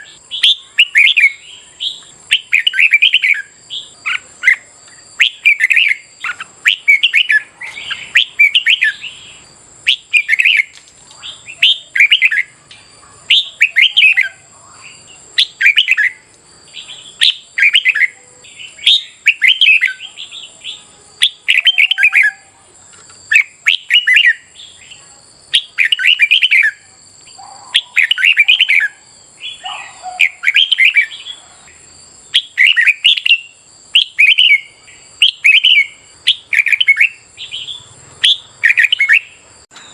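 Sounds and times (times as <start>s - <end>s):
bulbuls singing warbled phrases: 0.0s - 39.5s.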